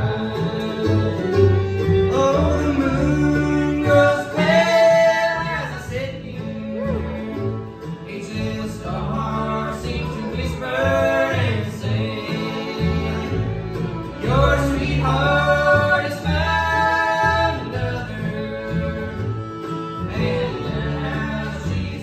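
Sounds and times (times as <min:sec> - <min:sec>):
bass line: 0:00.0 - 0:22.0
bluegrass band playing: 0:00.0 - 0:22.0
voices singing: 0:00.0 - 0:22.0.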